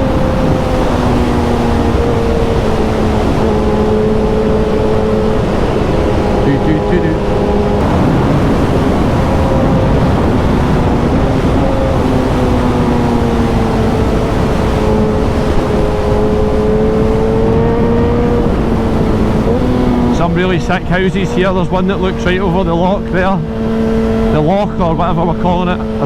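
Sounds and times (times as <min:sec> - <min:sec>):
motorcycle engine running: 0:00.0 - 0:26.0
wind rush on microphone: 0:00.0 - 0:26.0.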